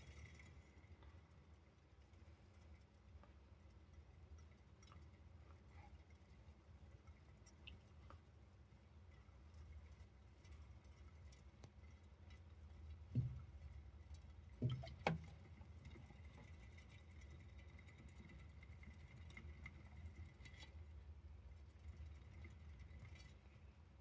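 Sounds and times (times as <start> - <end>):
hamster pattering and ticking: 0.0 - 23.8.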